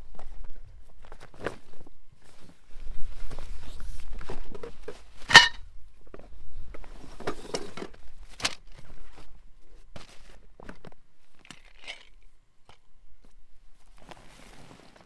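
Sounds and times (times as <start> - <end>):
handling knocks and rustles: 0.0 - 15.0.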